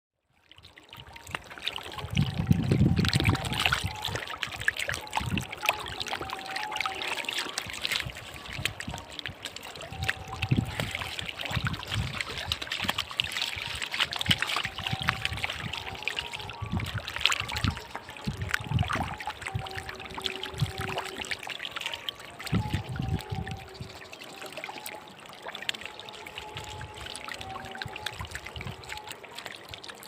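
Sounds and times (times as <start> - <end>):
water splashing and trickling: 0.2 - 30.0.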